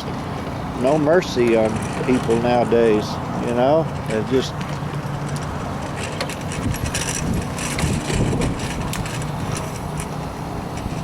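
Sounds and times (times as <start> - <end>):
car engine and road hum: 0.0 - 11.0
light clicks and rattles: 0.4 - 11.0.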